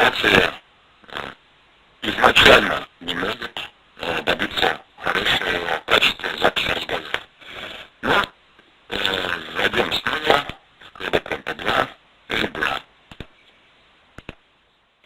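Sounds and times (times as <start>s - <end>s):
choppy compressed voice: 0.0s - 13.5s.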